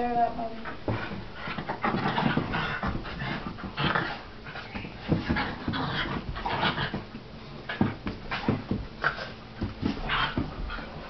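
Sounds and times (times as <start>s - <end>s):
dogs panting and scuffling: 0.6s - 11.0s.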